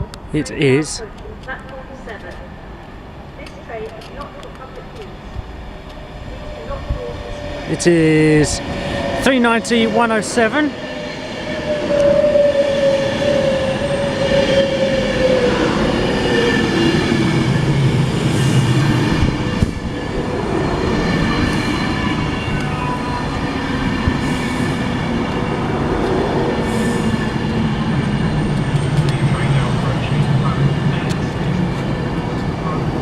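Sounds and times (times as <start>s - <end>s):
electric train rumble: 0.0s - 33.0s
whining train tones: 1.0s - 33.0s.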